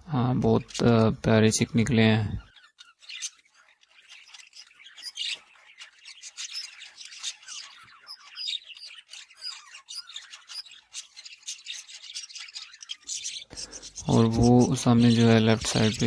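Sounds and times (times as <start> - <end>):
budgerigars chattering: 0.3 - 16.0.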